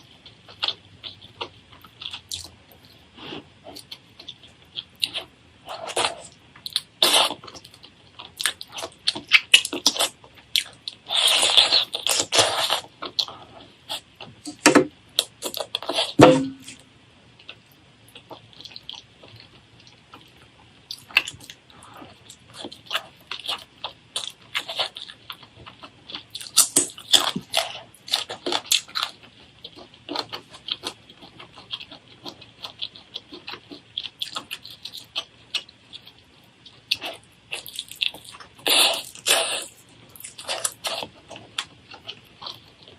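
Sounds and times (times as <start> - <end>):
crunching while eating: 0.0 - 16.8, 17.4 - 42.9.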